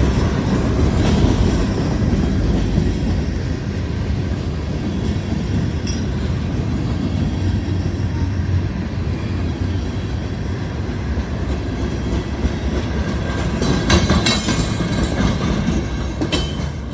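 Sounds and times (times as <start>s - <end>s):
train wheels clattering on rail: 0.0s - 16.9s.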